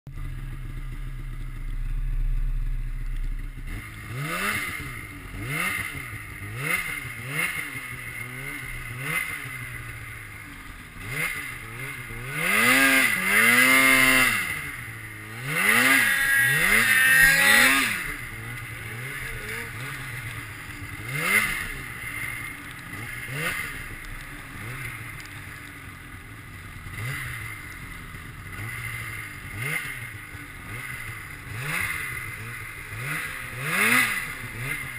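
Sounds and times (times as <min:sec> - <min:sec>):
snowmobile engine revving: 0:00.2 - 0:34.9.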